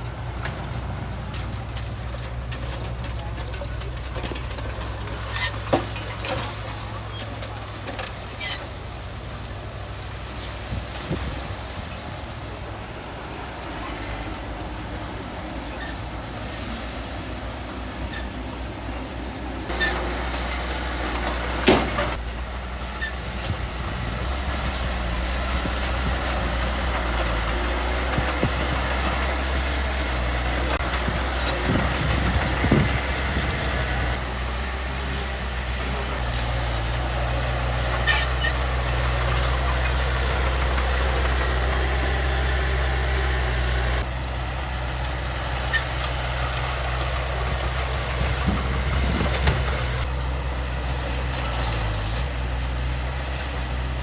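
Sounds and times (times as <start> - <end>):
diesel earthmoving machine running: 0.0 - 54.0.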